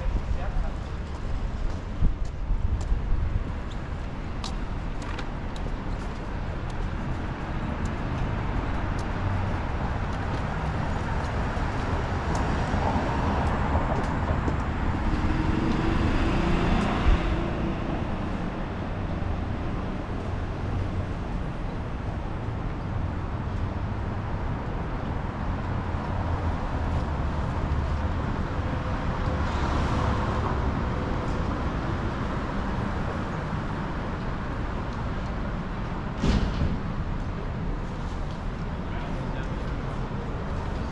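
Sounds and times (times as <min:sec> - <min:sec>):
road traffic: 0:00.0 - 0:40.9.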